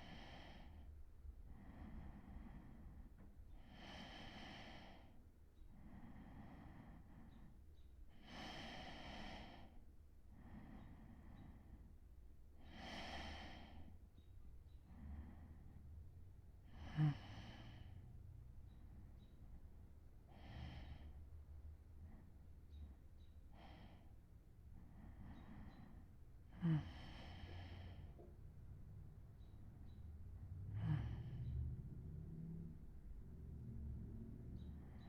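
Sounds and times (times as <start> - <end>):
man breathing softly in sleep: 0.0 - 31.6, 34.6 - 35.0.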